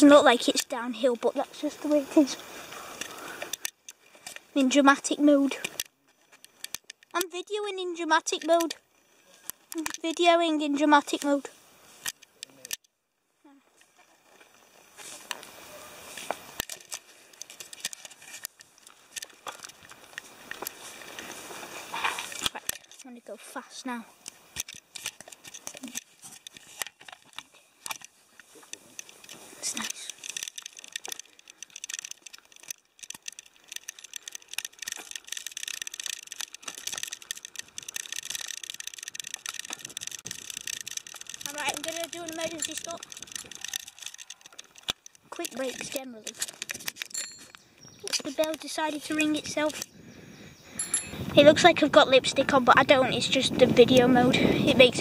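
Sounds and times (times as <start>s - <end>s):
bicycle tyres rolling on tarmac: 0.0s - 12.6s, 13.4s - 55.0s
grit clicks and crackles: 0.0s - 12.9s, 13.6s - 50.0s.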